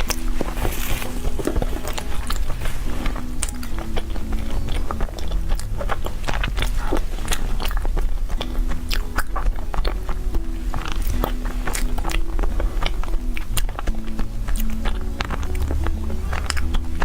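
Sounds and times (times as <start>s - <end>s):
mouth clicks and smacks: 0.0s - 17.0s
person chewing: 0.0s - 17.0s
soft background music: 0.0s - 17.0s.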